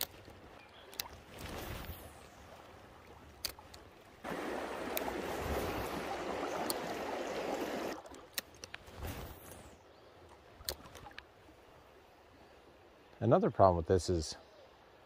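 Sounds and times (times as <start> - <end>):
rushing stream water: 0.0 - 13.1.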